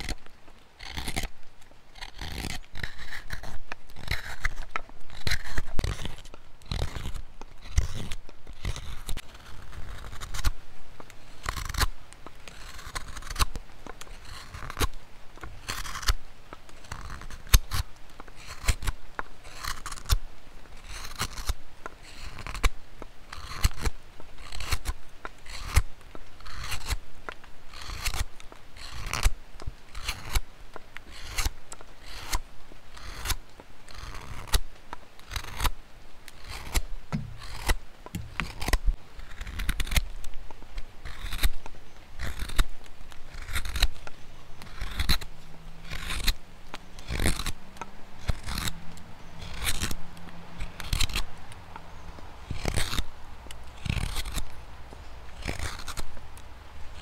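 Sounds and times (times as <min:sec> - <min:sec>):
knife blade shaving wood: 0:00.0 - 0:22.7, 0:23.3 - 0:50.0, 0:50.6 - 0:57.0.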